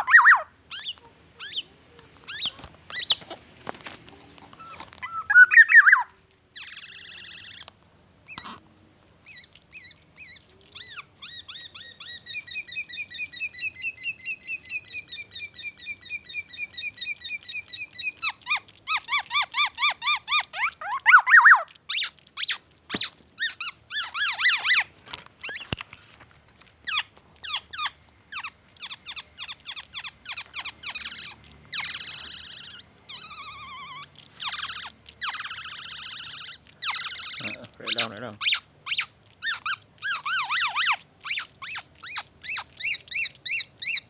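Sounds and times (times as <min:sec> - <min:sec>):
bird singing varied song: 0:00.0 - 0:03.4, 0:04.5 - 0:25.8, 0:26.6 - 0:44.0.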